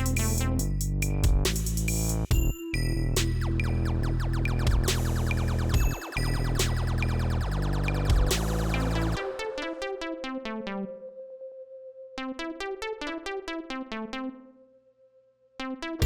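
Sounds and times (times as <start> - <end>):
synthesizer melody: 0.0 - 1.3, 2.3 - 14.8.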